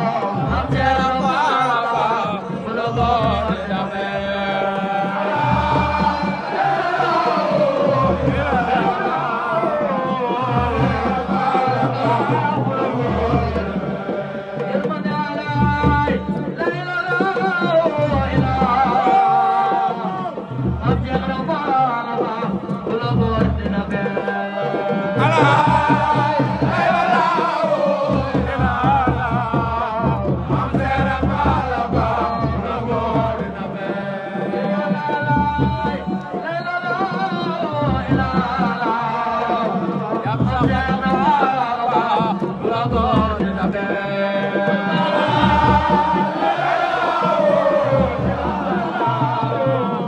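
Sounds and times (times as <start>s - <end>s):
hand drum percussion: 0.0s - 50.0s
man chanting into a microphone: 0.0s - 50.0s.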